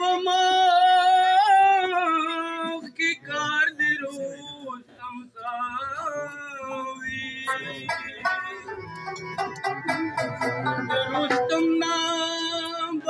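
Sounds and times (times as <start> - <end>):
man singing: 0.0 - 8.9, 9.9 - 13.0.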